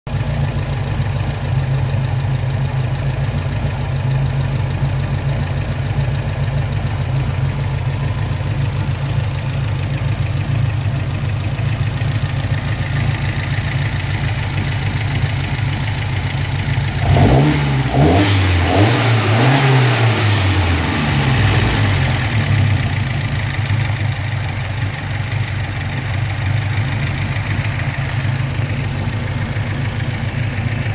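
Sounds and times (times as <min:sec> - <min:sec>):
car engine idling roughly: 0:00.1 - 0:30.9.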